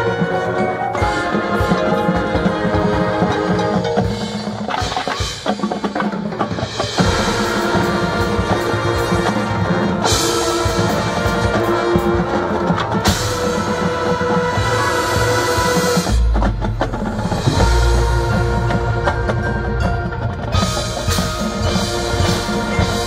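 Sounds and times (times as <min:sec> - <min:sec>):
marching band playing: 0:00.0 - 0:23.0
bass and snare drums: 0:01.2 - 0:23.0.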